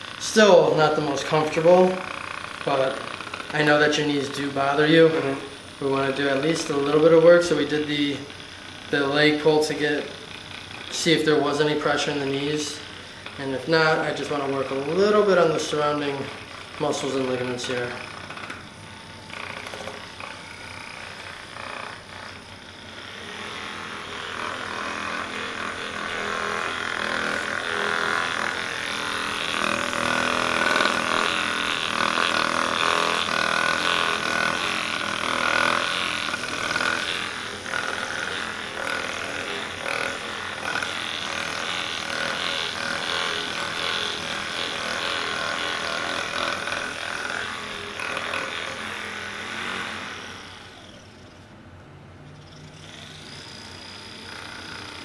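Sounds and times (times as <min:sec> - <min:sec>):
massage gun buzzing: 0:00.0 - 0:51.5, 0:52.2 - 0:55.0.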